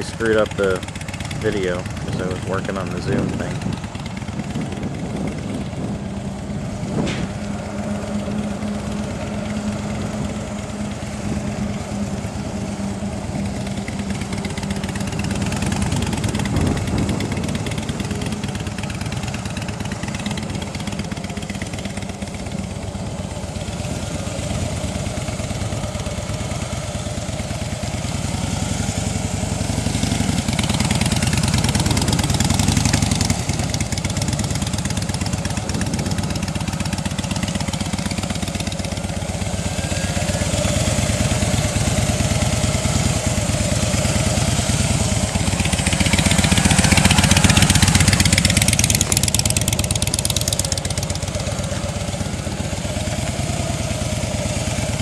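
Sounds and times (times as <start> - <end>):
motorcycle engine at low revs: 0.0 - 55.0.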